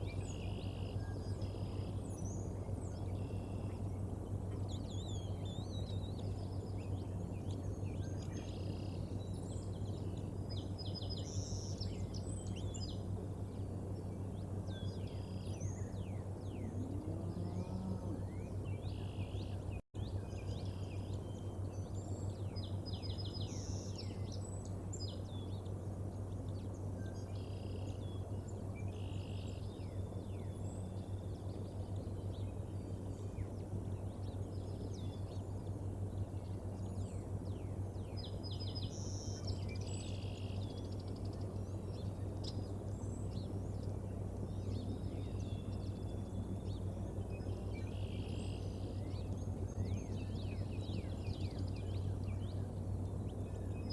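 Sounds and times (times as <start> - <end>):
birds chirping and singing: 0.0 - 53.9
low hum: 0.0 - 53.9.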